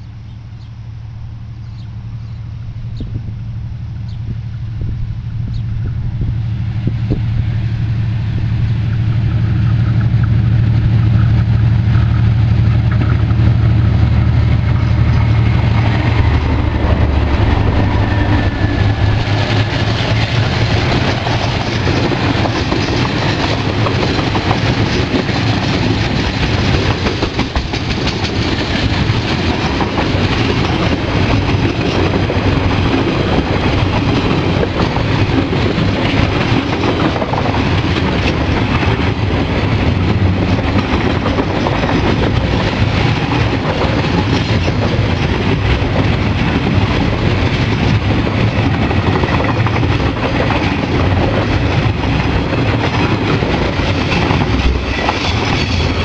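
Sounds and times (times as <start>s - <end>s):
locomotive engines droning: 0.0s - 56.0s
wheels clacking over rail joints: 8.6s - 56.0s.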